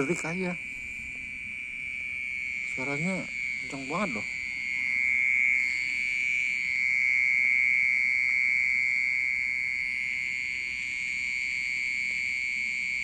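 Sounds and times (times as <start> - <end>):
high-pitched ringing drone: 0.0 - 13.0.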